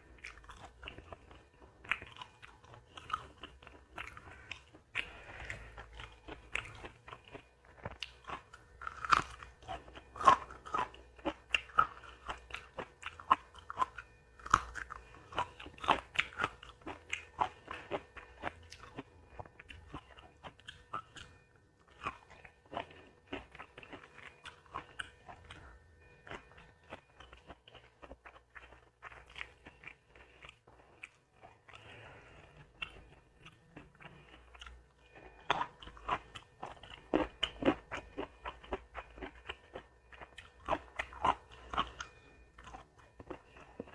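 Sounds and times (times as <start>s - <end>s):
close chewing and biting: 0.0s - 43.9s.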